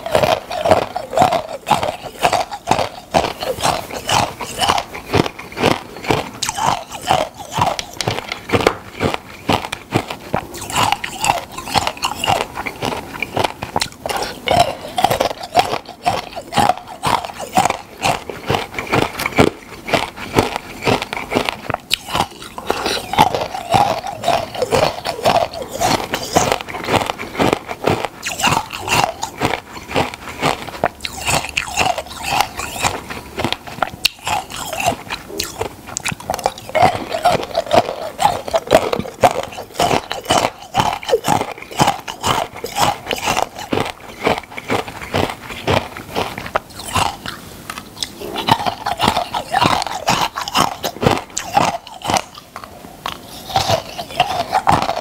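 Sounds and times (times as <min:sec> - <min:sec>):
crunchy chewing of ice: 0:00.0 - 0:55.0.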